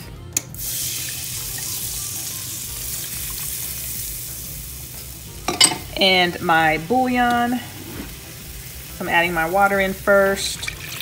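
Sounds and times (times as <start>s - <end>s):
liquid sizzling in hot roux: 0.6s - 11.0s.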